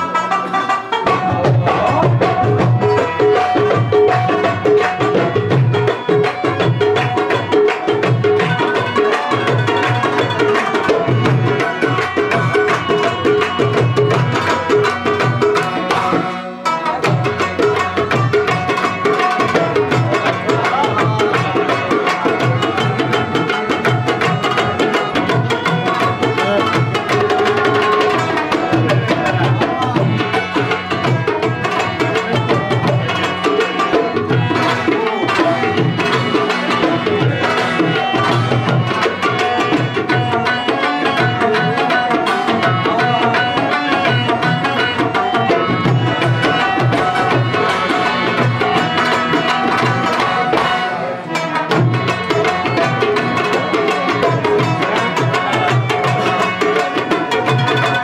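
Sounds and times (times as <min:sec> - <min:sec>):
tabla drumming: 0:00.0 - 0:58.0.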